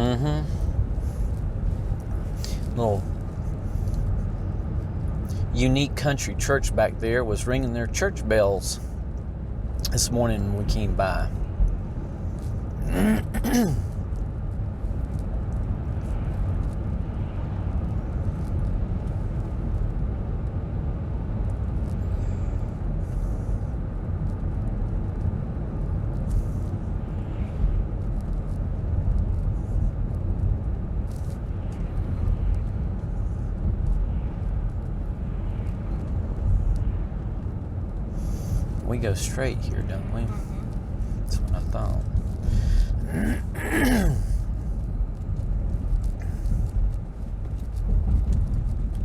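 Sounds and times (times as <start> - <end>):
car driving heard from cabin: 0.0 - 49.0.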